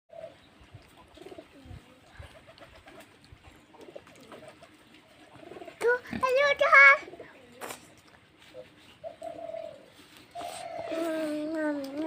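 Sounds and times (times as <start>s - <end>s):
pigeons cooing: 0.1s - 12.0s.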